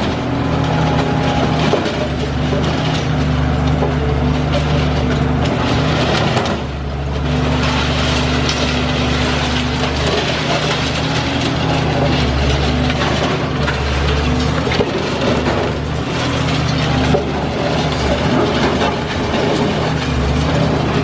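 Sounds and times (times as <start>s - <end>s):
concrete crunching and crackling: 0.0s - 21.0s
excavator diesel engine: 0.0s - 21.0s.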